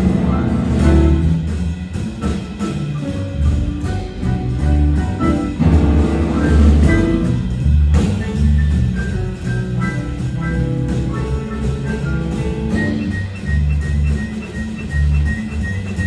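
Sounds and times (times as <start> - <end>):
repeating bass line: 0.0 - 1.7, 2.3 - 16.0
live band playing: 0.0 - 16.0.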